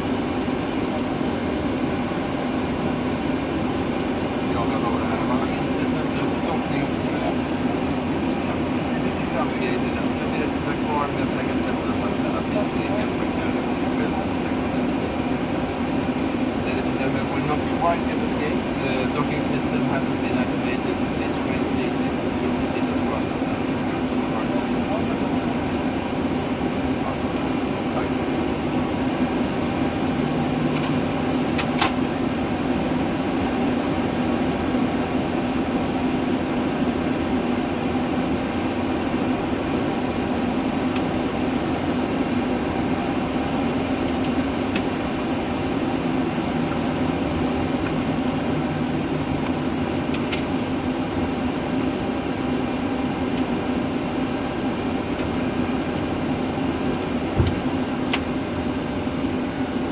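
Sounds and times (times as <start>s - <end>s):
engine hum: 0.0s - 59.8s
ventilation airflow: 0.0s - 59.9s.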